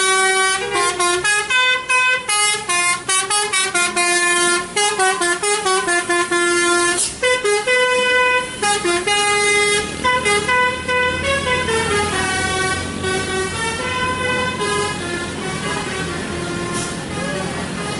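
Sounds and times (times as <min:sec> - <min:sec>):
heavy engine humming: 0:00.0 - 0:17.9
musical air horn playing a tune: 0:00.0 - 0:17.9.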